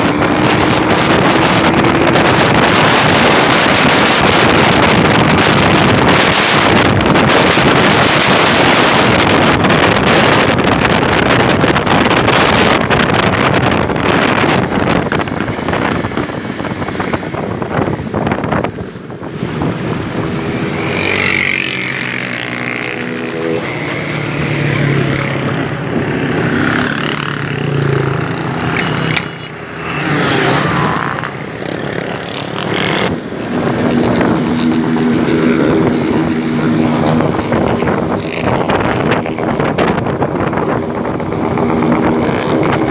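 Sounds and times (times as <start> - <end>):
motorcycle engine: 0.0 - 42.9
wind rush on microphone: 0.0 - 42.9.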